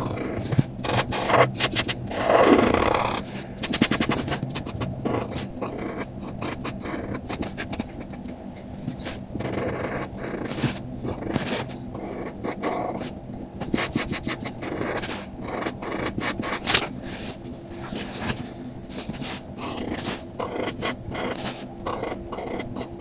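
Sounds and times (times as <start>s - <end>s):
low steady hum: 0.0s - 23.0s
pen scratching on paper card: 0.0s - 23.0s.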